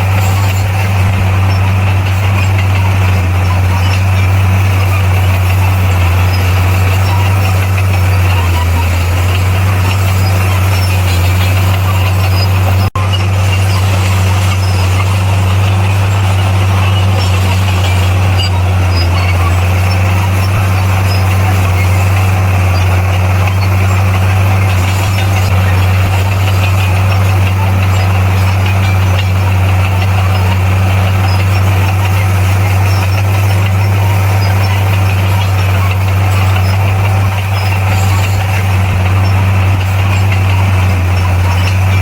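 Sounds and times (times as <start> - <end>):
bulldozer diesel engine droning: 0.0 - 42.0.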